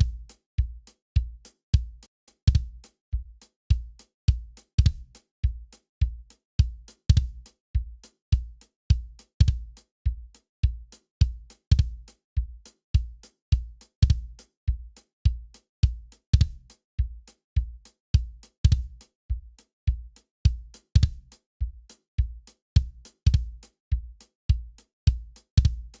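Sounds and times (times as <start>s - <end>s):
deep kick drum with click: 0.0s - 26.0s.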